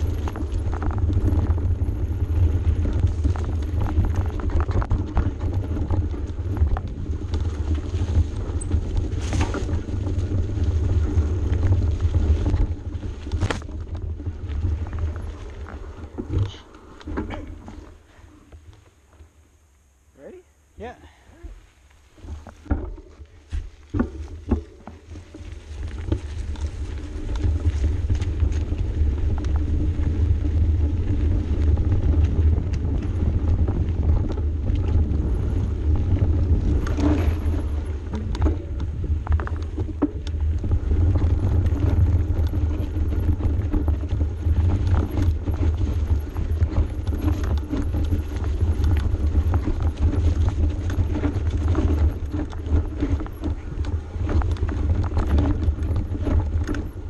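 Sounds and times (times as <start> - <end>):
bike rattling and clicking: 0.0 - 19.4, 22.0 - 57.0
wind rumble on microphone: 0.0 - 19.5, 21.4 - 57.0
knobby tyres running over dirt: 0.0 - 57.0.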